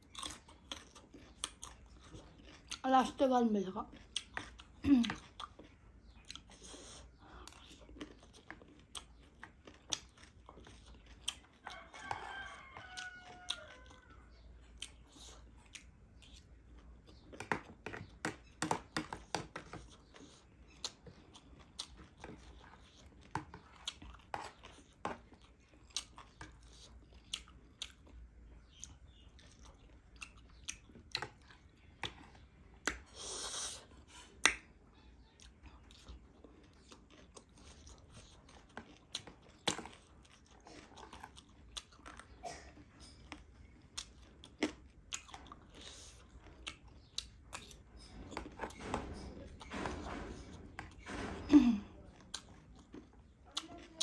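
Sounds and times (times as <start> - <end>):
chewing crunchy food: 0.0 - 54.0.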